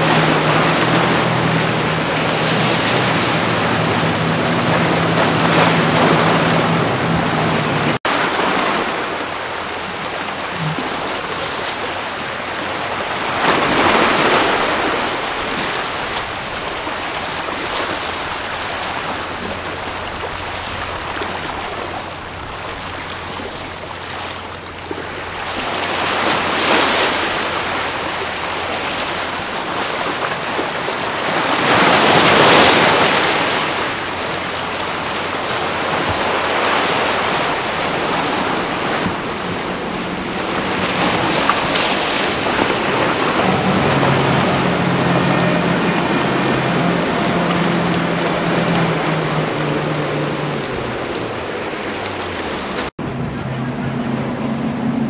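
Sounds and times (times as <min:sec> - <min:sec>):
surf washing against shore: 0:00.0 - 0:55.0
wind on microphone: 0:10.3 - 0:55.0.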